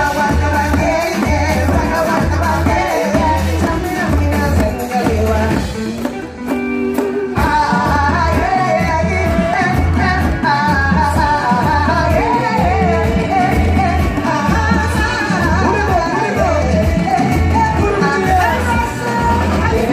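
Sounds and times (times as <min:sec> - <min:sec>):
upbeat pop song with singing: 0:00.0 - 0:19.9.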